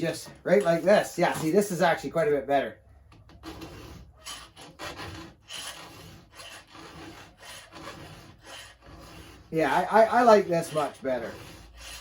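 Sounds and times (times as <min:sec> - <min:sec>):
file strokes on chainsaw chain: 0:00.0 - 0:01.6, 0:03.4 - 0:12.0.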